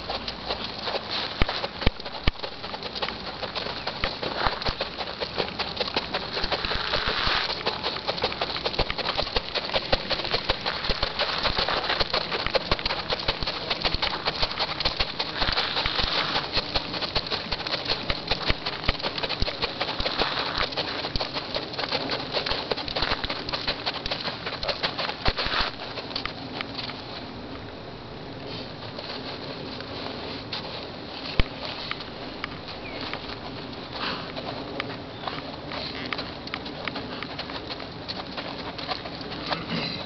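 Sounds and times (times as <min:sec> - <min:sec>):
horse hoofbeats on sand: 0:00.0 - 0:27.3, 0:28.4 - 0:40.0.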